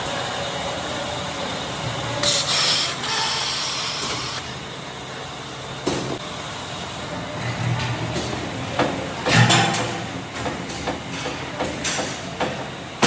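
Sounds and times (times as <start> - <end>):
factory machinery running: 0.0 - 13.0.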